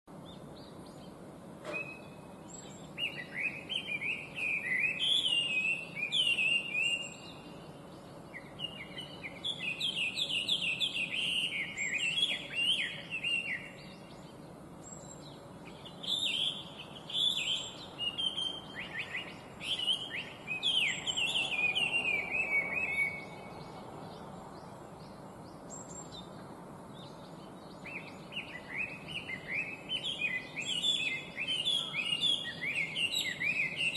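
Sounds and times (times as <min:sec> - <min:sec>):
bird singing: 0:00.1 - 0:33.9.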